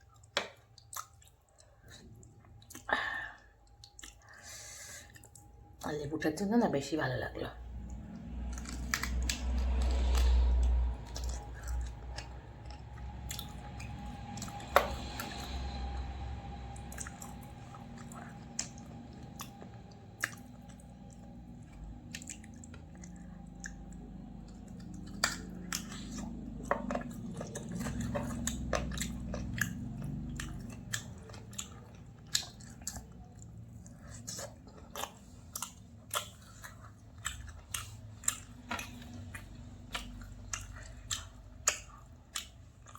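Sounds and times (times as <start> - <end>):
person chewing and eating: 0.0 - 5.9, 7.6 - 42.9
wet clicks and smacks: 0.1 - 2.9, 3.6 - 4.5, 7.8 - 15.9, 16.9 - 42.6
dull low rumble: 5.1 - 42.9.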